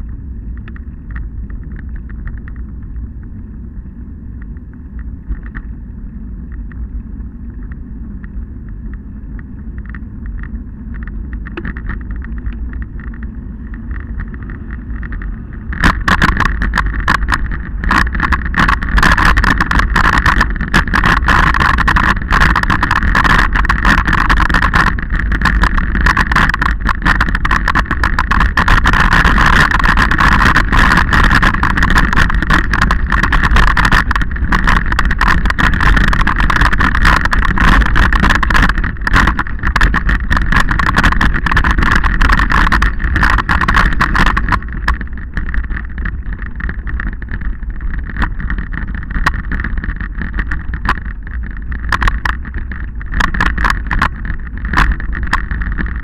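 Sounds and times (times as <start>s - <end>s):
rattle and crunch on stony track: 0.0s - 56.0s
wind on microphone: 0.0s - 56.0s.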